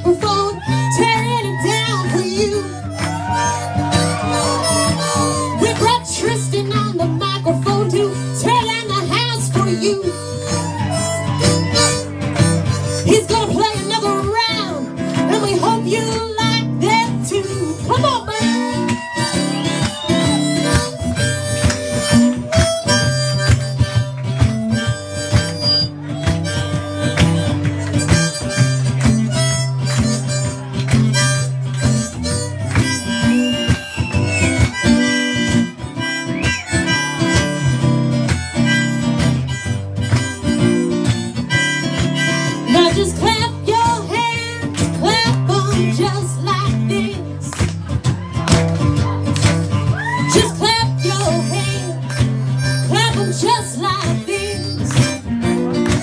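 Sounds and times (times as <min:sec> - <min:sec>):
harmonica solo: 0:00.0 - 0:47.2, 0:48.9 - 0:56.0
acoustic guitar strumming: 0:00.0 - 0:56.0
cajon beat: 0:00.0 - 0:56.0.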